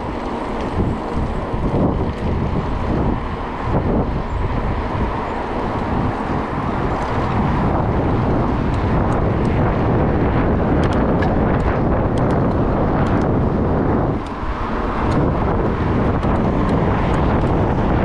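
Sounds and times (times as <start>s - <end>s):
road traffic rumble: 0.0s - 18.0s
wind rushing over microphone: 0.0s - 18.0s.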